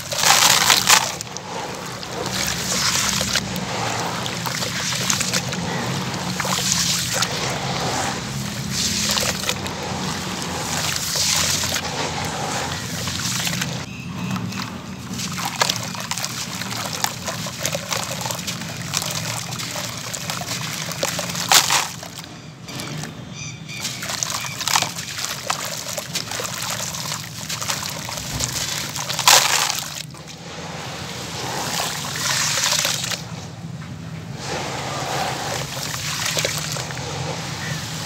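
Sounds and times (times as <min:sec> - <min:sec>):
cement crumbs pouring into water: 0:00.0 - 0:13.9, 0:15.1 - 0:23.1, 0:23.8 - 0:33.2, 0:35.4 - 0:38.0
sharp splashes: 0:00.0 - 0:33.3, 0:34.4 - 0:38.0
water sloshing: 0:00.0 - 0:33.6, 0:34.2 - 0:38.0.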